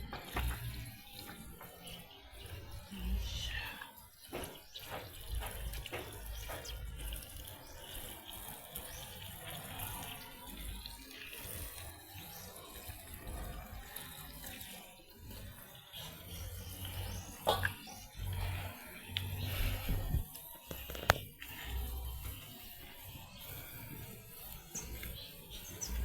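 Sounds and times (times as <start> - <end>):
water running and splashing: 0.0 - 26.0.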